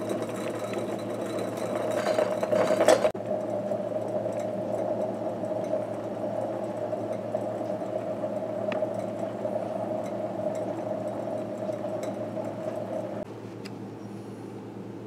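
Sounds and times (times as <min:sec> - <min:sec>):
coffee maker bubbling: 0:00.0 - 0:13.3
low steady hum: 0:00.0 - 0:15.0.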